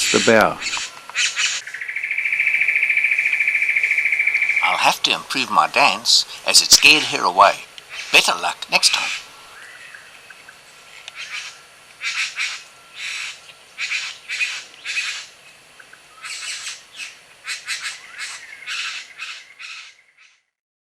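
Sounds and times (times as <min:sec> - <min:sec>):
bird squawking: 0:00.0 - 0:10.5, 0:11.2 - 0:15.3, 0:16.2 - 0:20.4.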